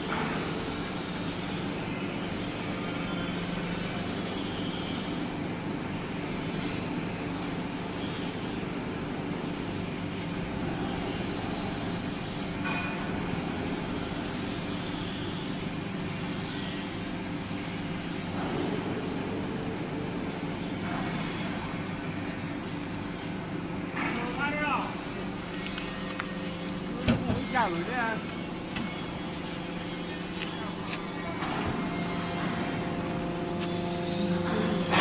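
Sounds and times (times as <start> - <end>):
electric motor and pump humming: 0.0 - 35.0.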